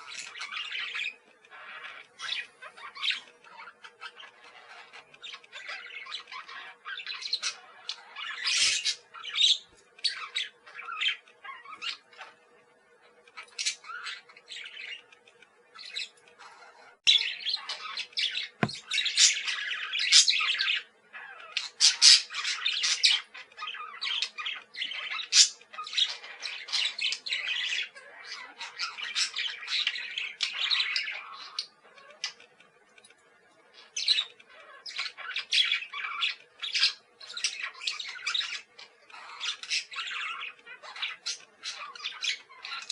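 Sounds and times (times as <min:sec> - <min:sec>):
parakeets chattering: 0:00.0 - 0:32.6, 0:33.2 - 0:42.9.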